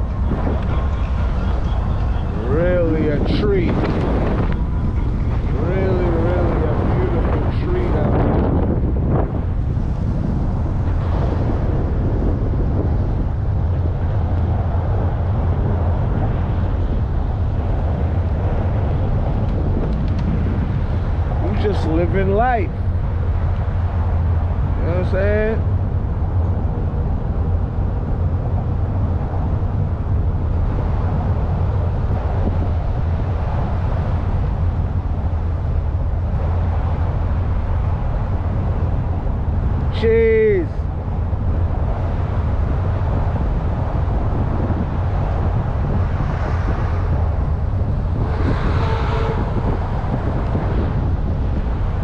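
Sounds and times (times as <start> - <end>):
low outdoor rumble: 0.0 - 52.0
wind buffeting microphone: 0.0 - 52.0.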